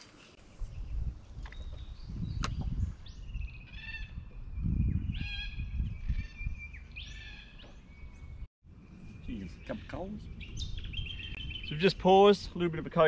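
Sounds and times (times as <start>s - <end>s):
birds calling: 0.0s - 12.8s.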